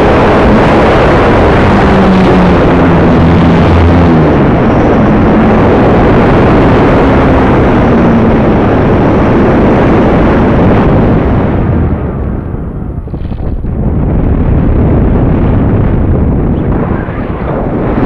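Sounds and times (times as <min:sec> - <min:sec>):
motor and propeller humming: 0:00.0 - 0:18.0
wind rush over microphone: 0:00.0 - 0:18.0.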